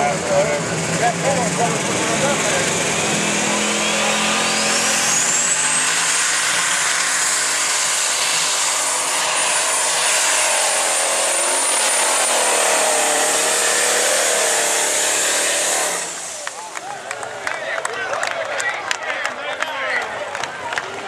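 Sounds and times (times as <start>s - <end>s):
high turbo whine: 0.0s - 17.0s
tractor engine at full power: 0.0s - 17.3s.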